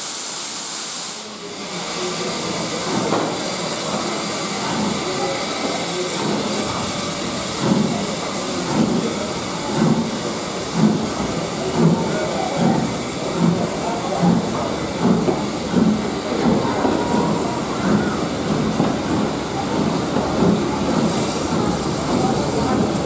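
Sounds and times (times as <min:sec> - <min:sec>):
steam hissing: 0:00.0 - 0:23.0
steam locomotive exhaust chuffs: 0:00.0 - 0:23.0.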